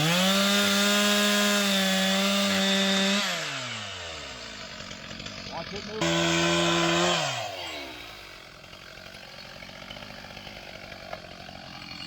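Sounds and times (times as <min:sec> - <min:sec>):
chainsaw engine revving and idling: 0:00.0 - 0:12.0.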